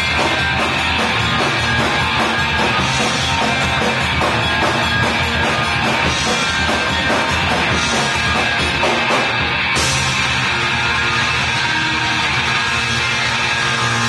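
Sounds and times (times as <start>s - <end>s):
drum kit beat: 0.0s - 14.0s
electric guitars: 0.0s - 14.0s.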